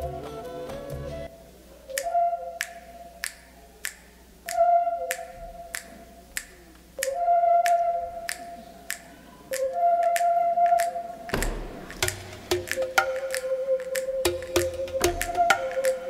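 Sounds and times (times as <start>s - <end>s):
flute-like melody: 0.0s - 3.4s, 4.5s - 6.0s, 7.0s - 8.8s, 9.5s - 16.0s
beat of sharp clicks: 1.9s - 16.0s.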